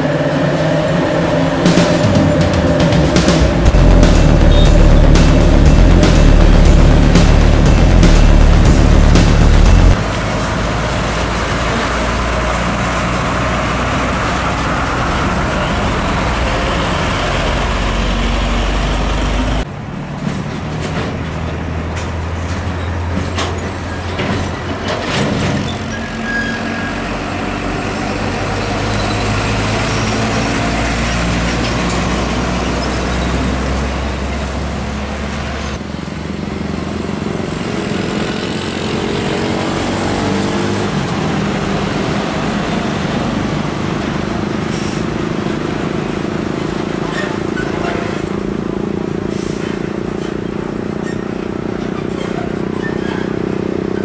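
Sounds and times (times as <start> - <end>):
road noise: 0.0 - 54.0
truck diesel engines at low revs: 0.0 - 54.0.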